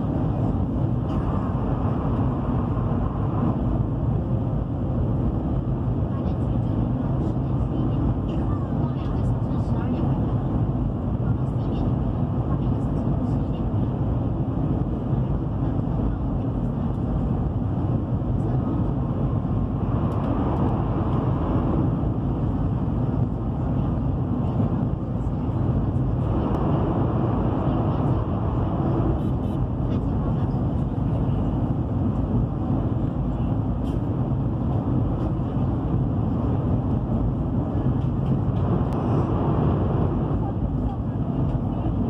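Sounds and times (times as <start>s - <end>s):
train rumbling at speed: 0.0s - 42.0s.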